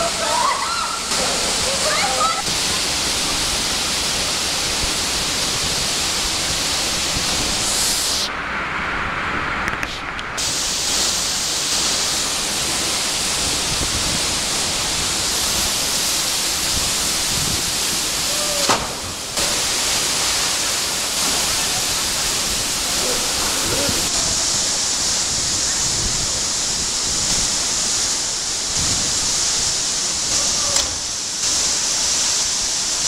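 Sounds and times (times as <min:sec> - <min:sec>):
waterfall rushing: 0:00.0 - 0:09.7, 0:10.4 - 0:33.0.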